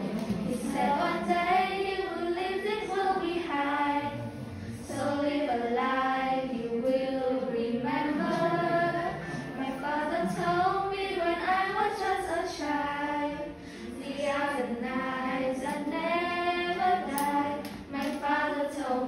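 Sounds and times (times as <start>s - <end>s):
girls singing together: 0.0s - 19.0s.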